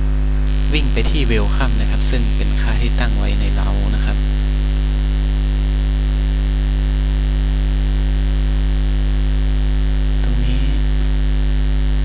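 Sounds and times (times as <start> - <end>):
electrical mains hum: 0.0 - 12.0
recording line hiss: 0.0 - 12.0.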